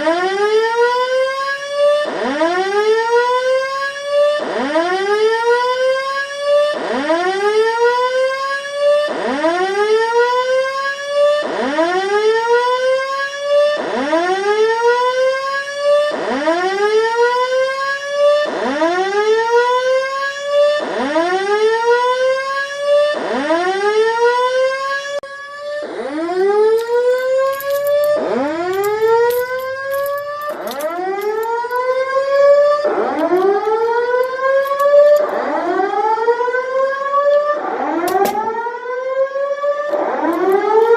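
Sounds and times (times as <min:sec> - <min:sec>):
fire alarm rising whoop: 0:00.0 - 0:40.9.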